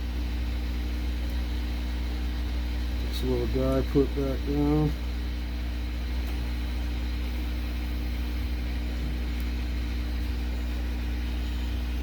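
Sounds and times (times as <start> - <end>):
low hum with constant tones: 0.0 - 12.0.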